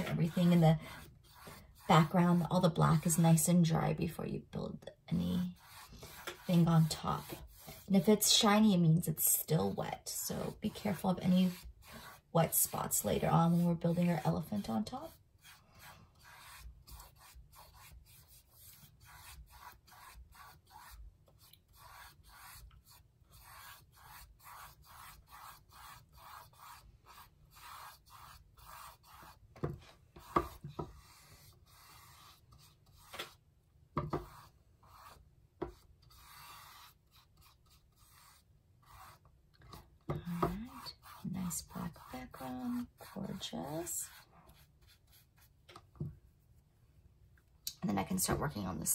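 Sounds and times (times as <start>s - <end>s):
paintbrush rubbing on canvas: 0.0s - 3.6s, 5.1s - 33.4s, 34.0s - 46.7s.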